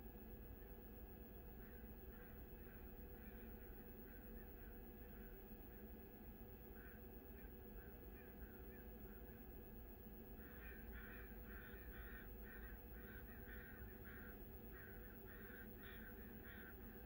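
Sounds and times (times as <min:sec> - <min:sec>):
low steady rumble: 0:00.0 - 0:17.0
faint short bird calls: 0:01.4 - 0:05.9, 0:06.7 - 0:09.4, 0:10.3 - 0:17.0.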